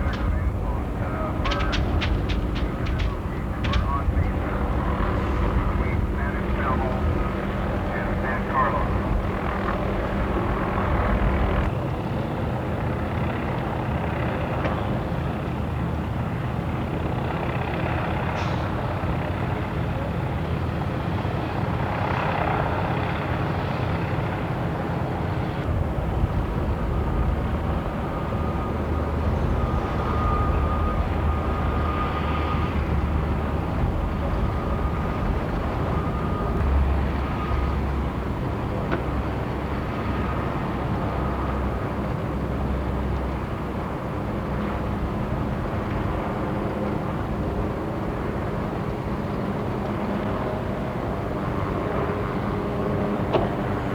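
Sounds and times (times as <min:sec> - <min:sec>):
helicopter rotor drone: 0:00.0 - 0:53.9.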